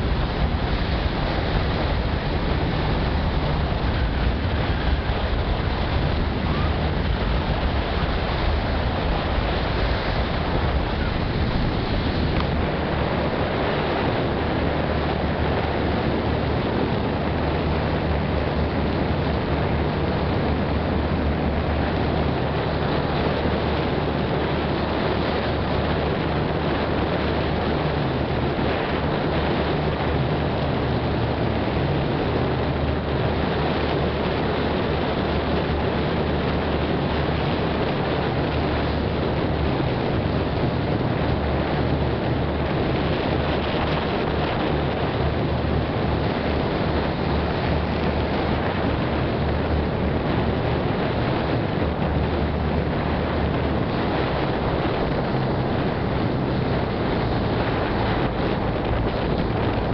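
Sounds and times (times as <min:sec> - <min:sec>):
ferry engine drone: 0:00.0 - 0:59.9
water rushing along hull: 0:00.0 - 0:59.9
wind rumbling on microphone: 0:00.0 - 0:59.9.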